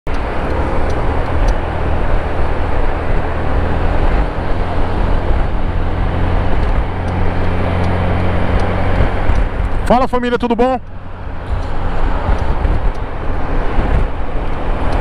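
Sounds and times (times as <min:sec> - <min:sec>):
wind and road noise: 0:00.0 - 0:15.0
faint engine hum: 0:00.1 - 0:15.0
heavy low rumble: 0:00.1 - 0:15.0.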